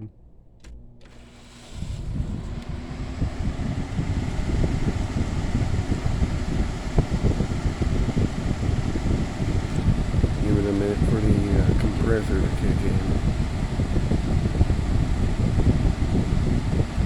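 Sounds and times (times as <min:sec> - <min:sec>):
air conditioner blower fan: 0:00.0 - 0:17.0
airflow buffeting microphone: 0:01.1 - 0:17.0.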